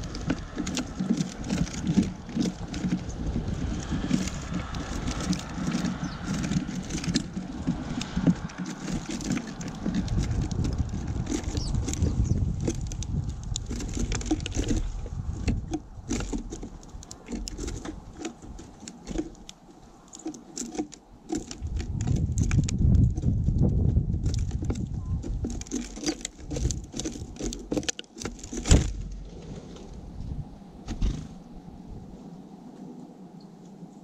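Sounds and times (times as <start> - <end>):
low rumbling bumps: 0.0 - 32.3
birds pecking seeds: 0.0 - 34.0.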